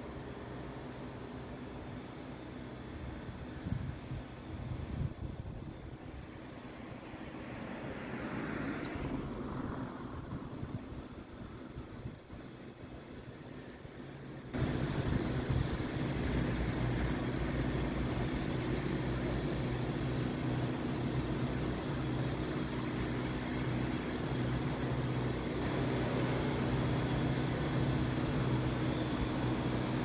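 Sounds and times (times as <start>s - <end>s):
locomotive engine hum: 0.0s - 30.0s.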